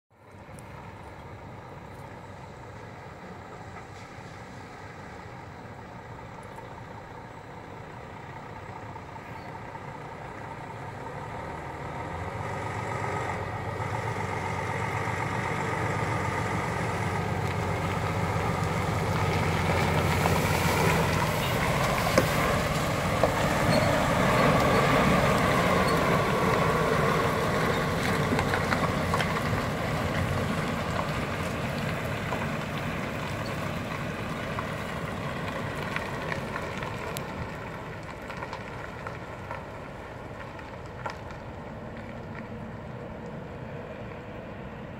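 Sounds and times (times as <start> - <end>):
truck diesel engine passing: 0.2 - 44.9.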